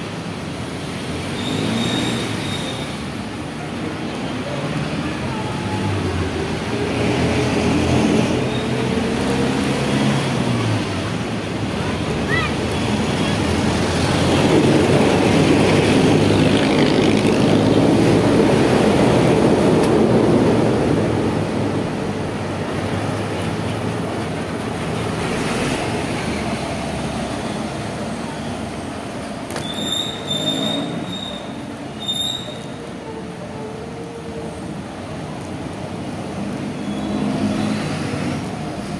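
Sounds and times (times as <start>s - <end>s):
city traffic noise: 0.0s - 38.9s.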